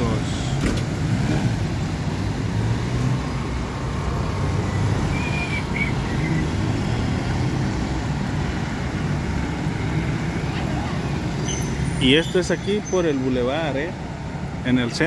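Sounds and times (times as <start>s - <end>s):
trucks passing: 0.0s - 15.0s.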